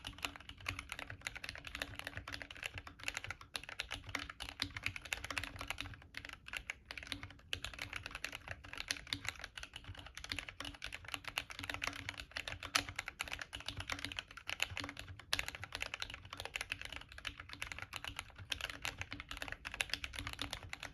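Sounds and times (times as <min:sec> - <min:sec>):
fast typing on mechanical keyboard: 0:00.0 - 0:20.9.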